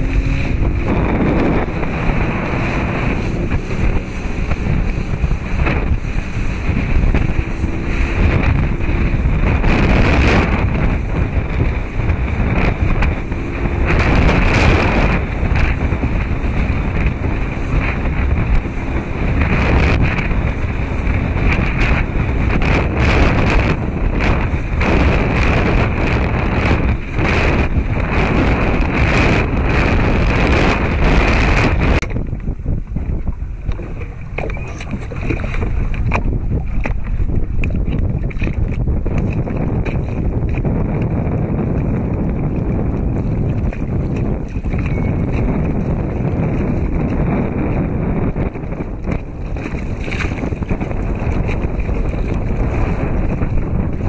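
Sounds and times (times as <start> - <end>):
rushing water: 0.0 - 54.0
wind buffeting microphone: 0.0 - 54.0.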